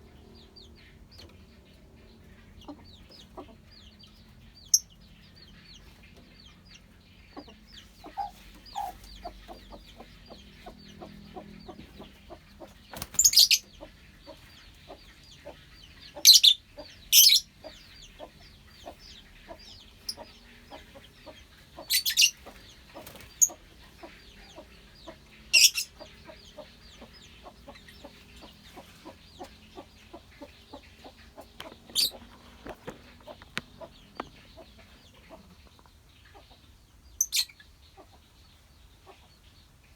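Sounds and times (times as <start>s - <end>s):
lovebirds chattering: 0.0s - 39.9s.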